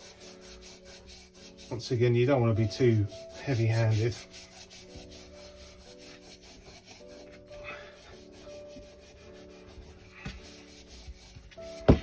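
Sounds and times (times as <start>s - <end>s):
cloth rubbing on metal: 0.0s - 12.0s.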